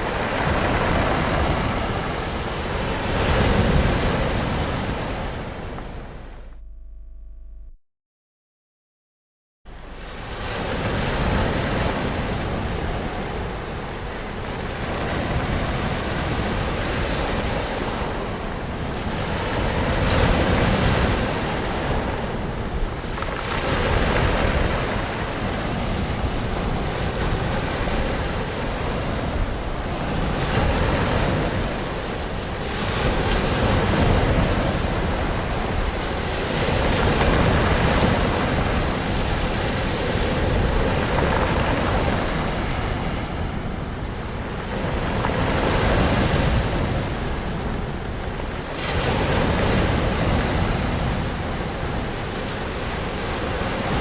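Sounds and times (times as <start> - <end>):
ocean waves breaking on shore: 0.0 - 6.4, 9.7 - 54.0.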